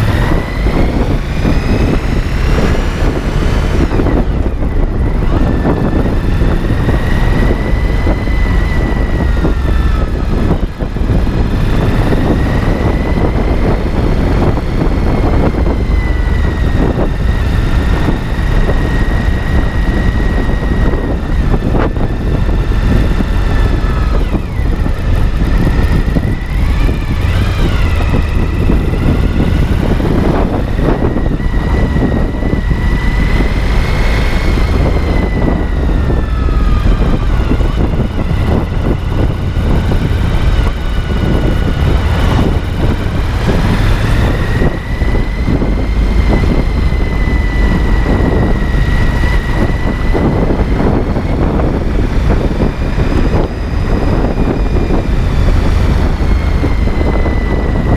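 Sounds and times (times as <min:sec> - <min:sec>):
mechanical drone with whine: 0:00.0 - 0:57.9.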